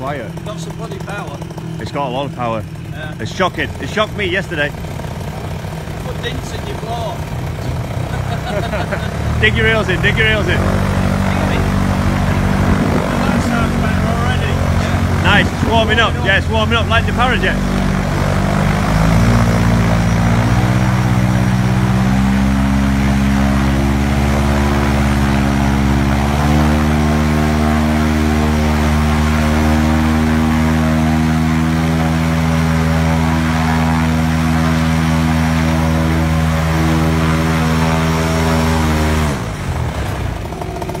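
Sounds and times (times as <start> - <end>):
paramotor engine and propeller: 0.0 - 41.0.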